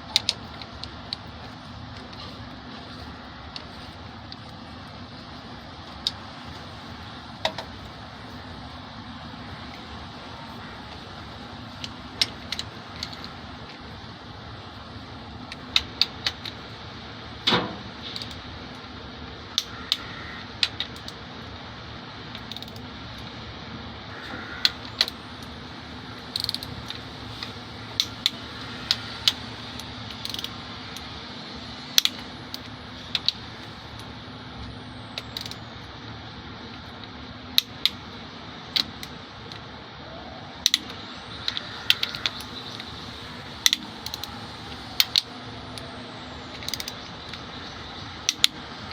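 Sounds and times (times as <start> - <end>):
background hum: 0.0 - 48.9.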